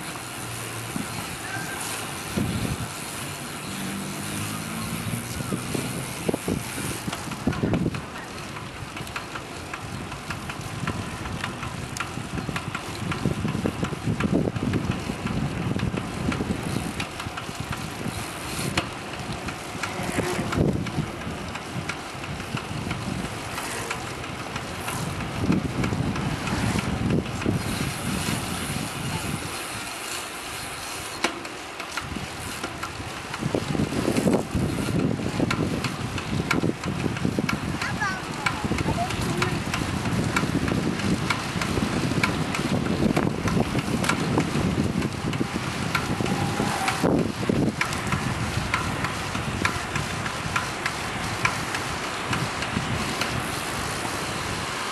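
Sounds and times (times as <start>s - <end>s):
abnormal bicycle noise: 0.0s - 54.9s
wind and road noise: 0.0s - 54.9s.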